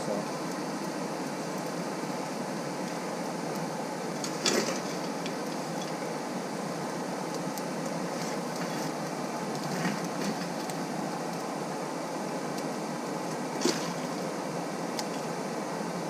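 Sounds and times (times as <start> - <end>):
coal crackling: 0.3 - 15.4.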